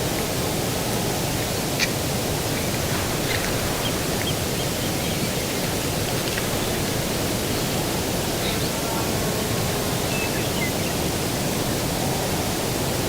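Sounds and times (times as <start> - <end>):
distant ocean surf: 0.0 - 13.0.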